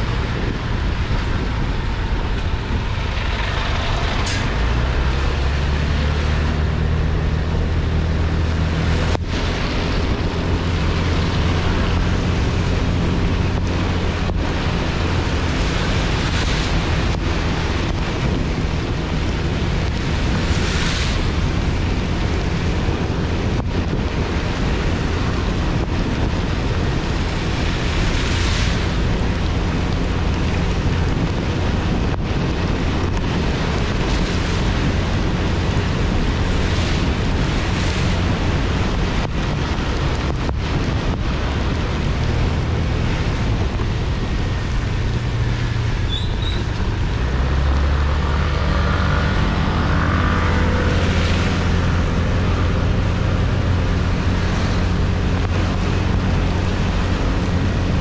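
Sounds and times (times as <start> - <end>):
low engine hum: 0.0 - 58.0
wind buffeting microphone: 0.0 - 58.0.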